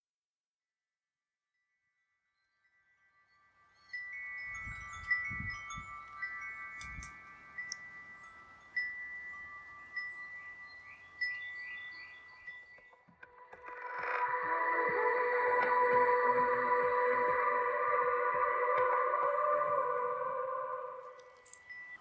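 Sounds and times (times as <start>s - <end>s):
wind chimes ringing: 3.3s - 22.0s.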